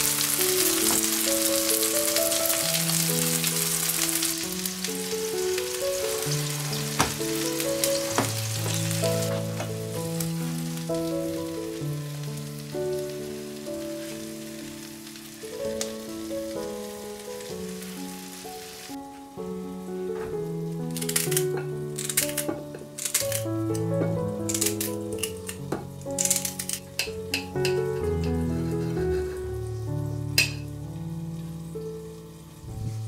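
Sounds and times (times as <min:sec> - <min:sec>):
cutlets sizzling in hot oil: 0:00.0 - 0:19.1, 0:20.5 - 0:33.0
gentle melody: 0:00.0 - 0:33.0.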